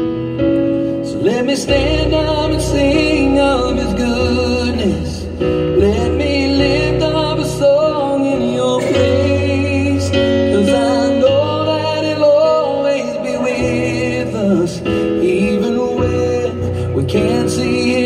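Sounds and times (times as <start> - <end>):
keyboard accompaniment: 0.0 - 18.0
man singing: 1.0 - 18.0.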